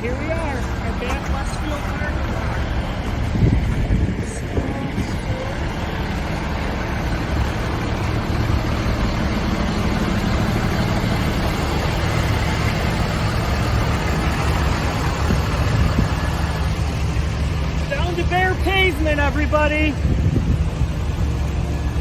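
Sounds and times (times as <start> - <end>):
vehicle engines humming: 0.0 - 22.0.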